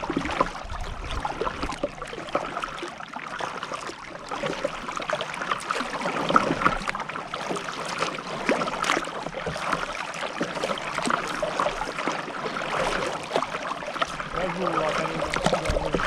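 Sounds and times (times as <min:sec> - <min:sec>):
kayak paddle splashing water: 0:00.0 - 0:16.0.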